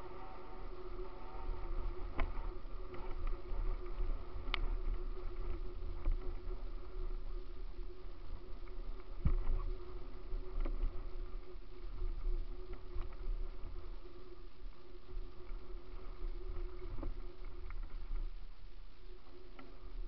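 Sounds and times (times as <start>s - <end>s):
steady hum: 0.0s - 20.0s
wind rumble on camera: 0.0s - 20.0s.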